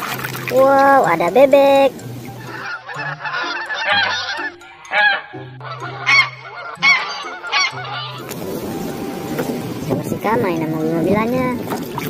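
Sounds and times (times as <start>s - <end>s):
geese honking: 1.0s - 11.6s.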